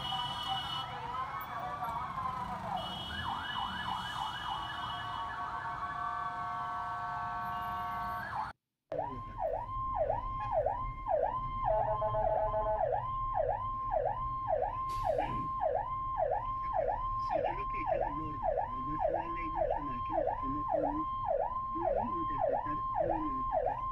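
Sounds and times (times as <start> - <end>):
multi-tone siren: 0.0 - 23.9
steady low siren tone: 0.0 - 23.9
yelp siren: 0.0 - 23.9.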